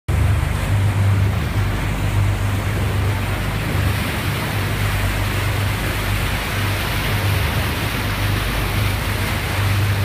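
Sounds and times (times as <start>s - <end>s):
boat engine droning: 0.1s - 10.0s
rushing water: 0.1s - 10.0s
wind: 0.1s - 10.0s.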